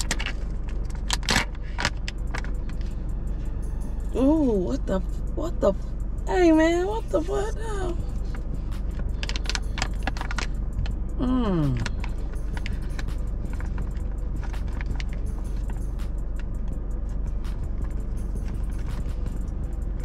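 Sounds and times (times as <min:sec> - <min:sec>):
car low hum: 0:00.0 - 0:20.0.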